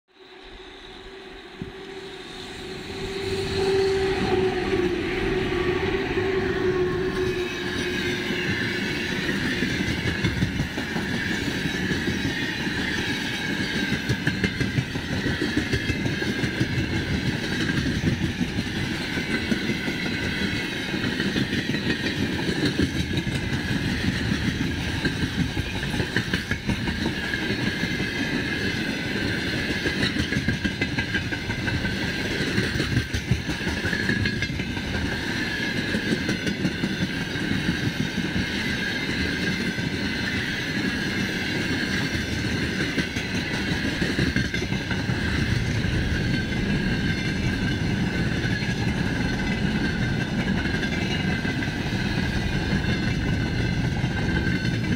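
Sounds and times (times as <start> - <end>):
electric locomotive hum: 0.1 - 54.9
train wheels clattering over rail joints: 7.4 - 54.9.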